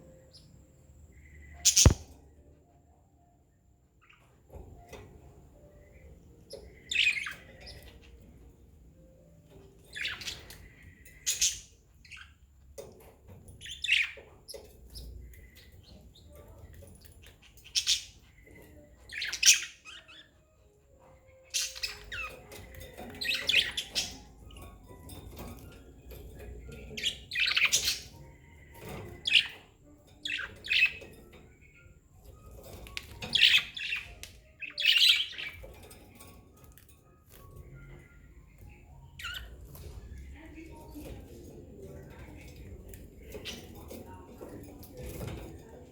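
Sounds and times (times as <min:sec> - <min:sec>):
budgerigars chirping and squawking: 0:00.0 - 0:02.2, 0:04.0 - 0:45.9.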